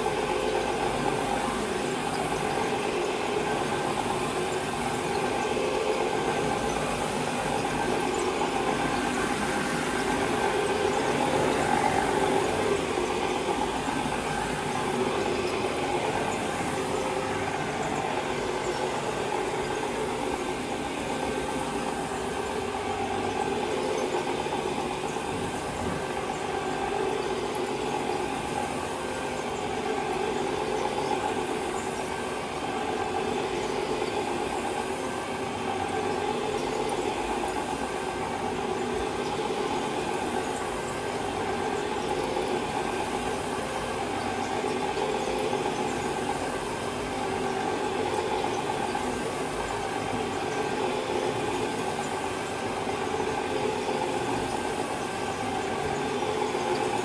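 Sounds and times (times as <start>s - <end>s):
carpet cleaning machine humming: 0.0s - 57.0s.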